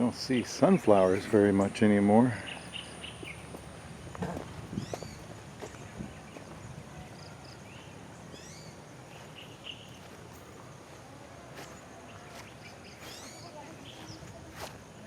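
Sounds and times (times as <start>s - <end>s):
small birds chirping: 0.3s - 15.0s.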